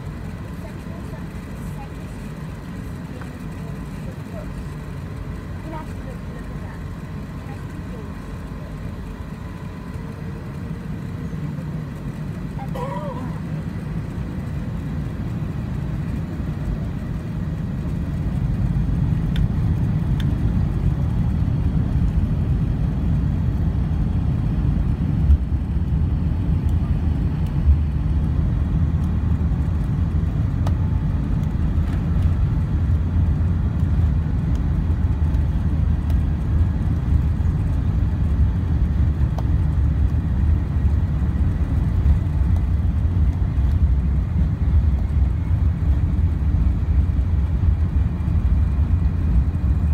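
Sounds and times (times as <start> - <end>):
low rumble of jet engines: 0.0 - 49.9.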